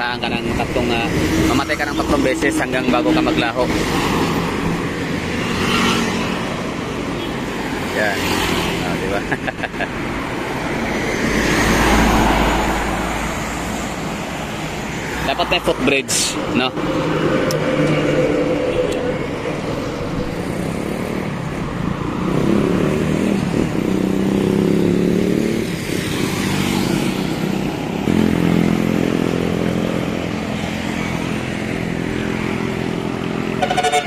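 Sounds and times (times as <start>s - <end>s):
highway traffic passing: 0.0s - 34.0s.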